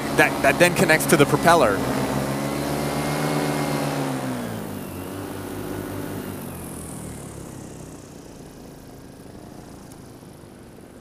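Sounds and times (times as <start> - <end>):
paramotor engine and propeller: 0.0 - 11.0.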